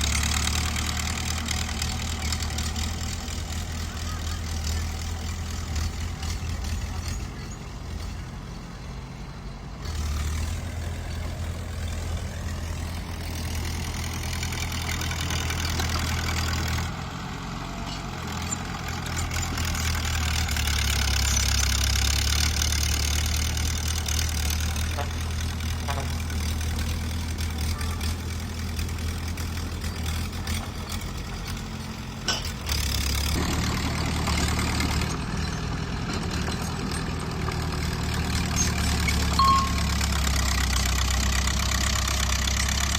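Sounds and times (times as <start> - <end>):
bulldozer diesel engine: 0.0 - 42.9.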